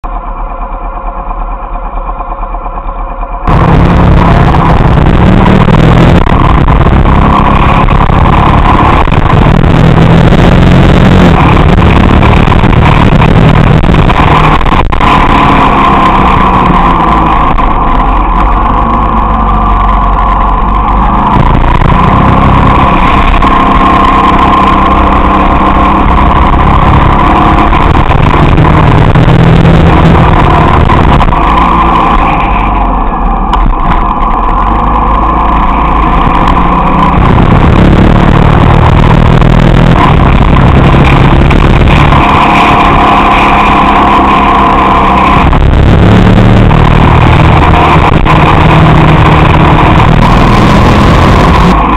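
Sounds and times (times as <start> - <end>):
motorcycle engine: 0.0 - 51.9
wind and road noise: 3.4 - 51.9.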